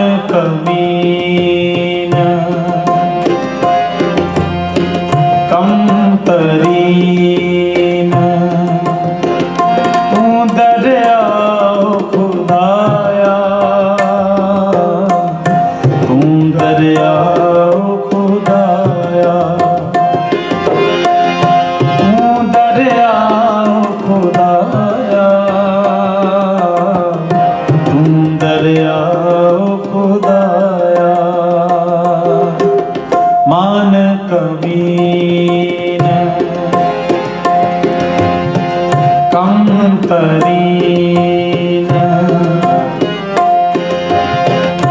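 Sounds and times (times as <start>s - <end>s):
person singing: 0.0s - 3.6s, 5.4s - 21.2s, 21.8s - 37.6s, 38.8s - 44.9s
harmonium chords: 0.0s - 44.9s
tabla rhythm: 0.0s - 44.9s.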